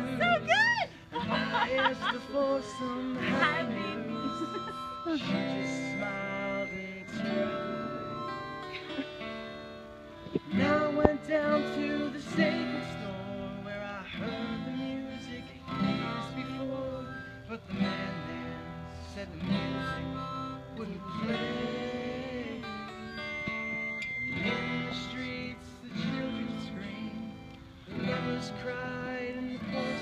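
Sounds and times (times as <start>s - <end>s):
person singing: 0.0s - 9.1s, 10.3s - 23.1s, 24.3s - 30.0s
acoustic guitar strumming: 0.0s - 30.0s.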